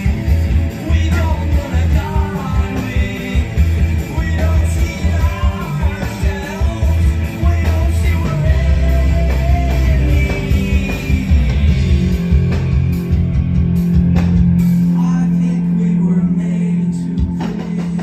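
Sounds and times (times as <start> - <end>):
person singing: 0.0 - 12.6, 14.9 - 18.0
live rock band playing: 0.0 - 18.0.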